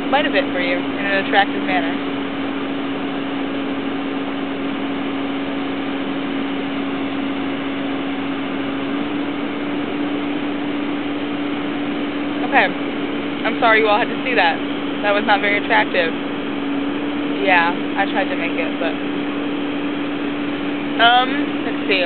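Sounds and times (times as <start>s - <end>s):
construction machinery humming: 0.0s - 22.0s.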